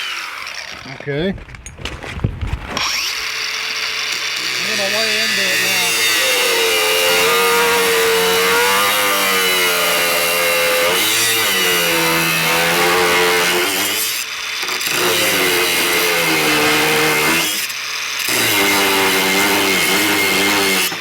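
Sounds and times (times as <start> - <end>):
angle grinder cutting: 0.0 - 1.2, 2.7 - 21.0.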